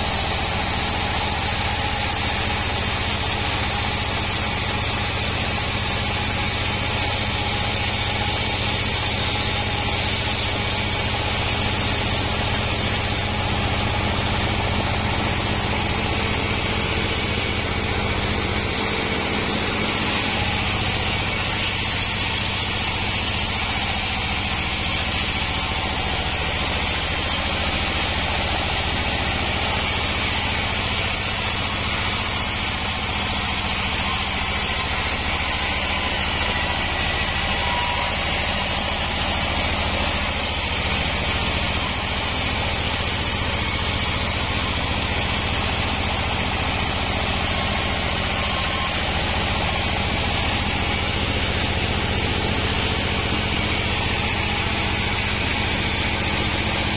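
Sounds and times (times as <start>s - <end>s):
band sawmill humming: 0.0s - 56.9s
saw blade cutting through log: 0.0s - 56.9s.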